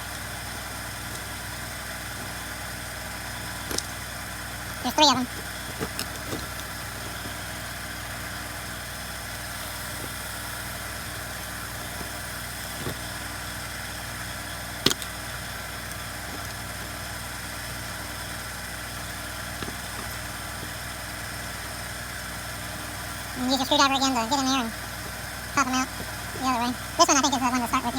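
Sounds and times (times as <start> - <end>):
mechanical hum: 0.0 - 27.9.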